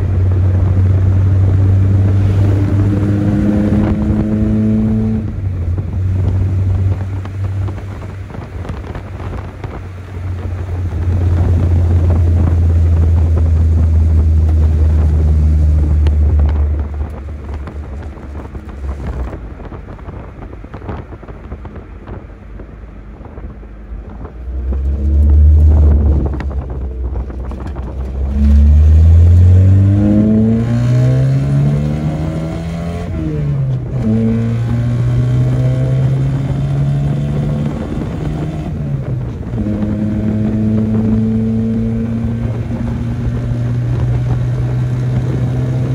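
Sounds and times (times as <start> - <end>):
pickup engine pulling hard: 0.0 - 45.9.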